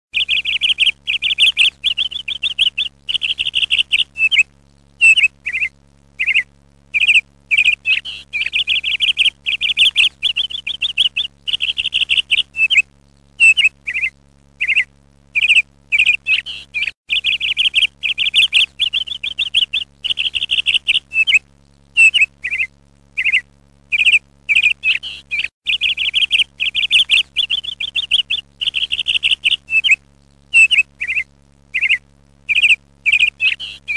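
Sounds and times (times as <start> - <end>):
songbird trilling and chirping: 0.2 - 4.4, 5.0 - 12.8, 13.4 - 21.4, 22.0 - 33.9.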